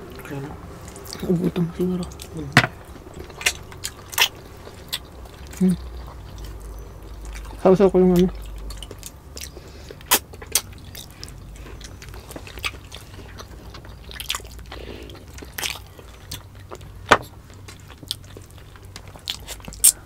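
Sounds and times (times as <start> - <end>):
wet chewing and lip smacks: 2.1 - 20.0.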